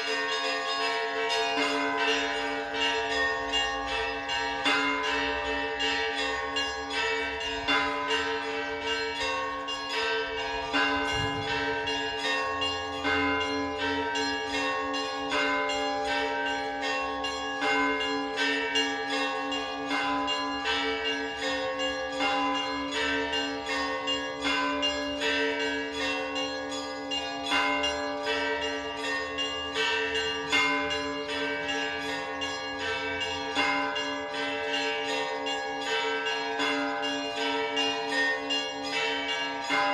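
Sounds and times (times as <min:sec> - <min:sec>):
large bells humming: 0:00.0 - 0:39.9.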